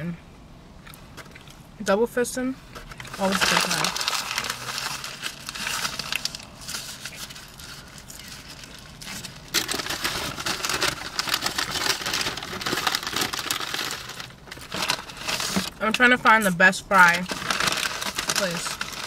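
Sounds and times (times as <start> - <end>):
paper wrapper crinkling: 2.8 - 15.8, 16.4 - 19.0.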